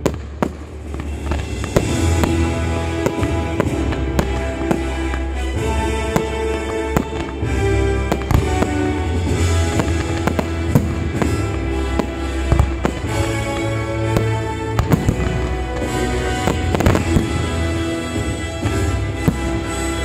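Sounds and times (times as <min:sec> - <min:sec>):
fireworks bangs and cracks: 0:00.0 - 0:20.0
music with low notes: 0:00.0 - 0:20.0.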